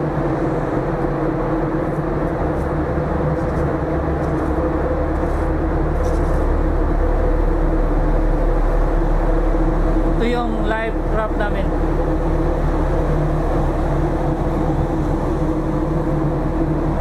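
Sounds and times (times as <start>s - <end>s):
low rumble: 0.0s - 17.0s
ship machinery hum: 0.0s - 17.0s.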